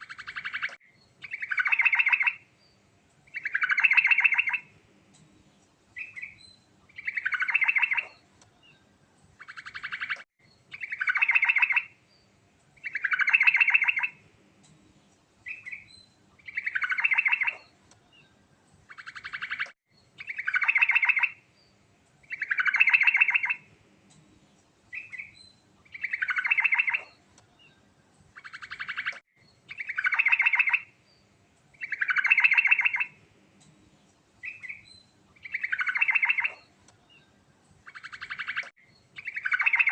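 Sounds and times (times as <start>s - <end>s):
bird singing rattling phrases: 0.0s - 39.9s.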